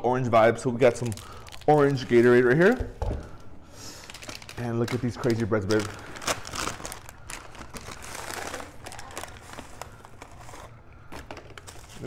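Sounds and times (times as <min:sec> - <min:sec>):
paper bag rustling and crinkling: 0:00.8 - 0:12.0.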